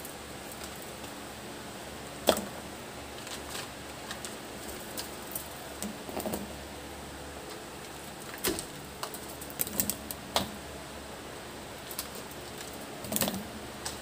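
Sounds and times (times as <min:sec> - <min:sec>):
steady low hiss of stove: 0:00.0 - 0:14.0.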